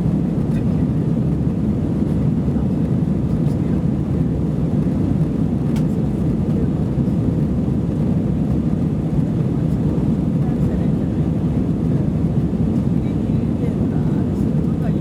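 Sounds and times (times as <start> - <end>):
airliner cabin engine drone: 0.0 - 15.0.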